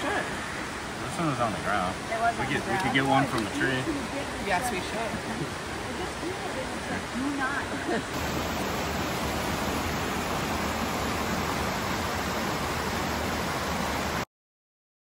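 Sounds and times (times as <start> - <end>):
stream rushing over rapids: 0.0 - 14.3.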